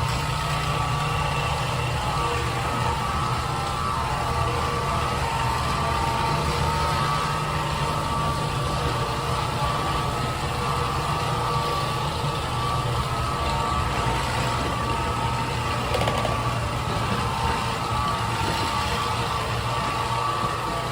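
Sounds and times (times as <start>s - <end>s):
machine motor humming: 0.0s - 20.9s.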